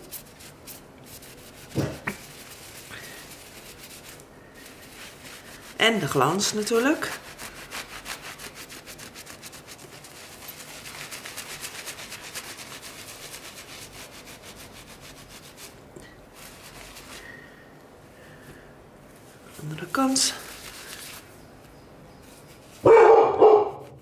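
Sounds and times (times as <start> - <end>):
cloth rubbing over tiles: 0.0 - 17.6, 19.0 - 23.0.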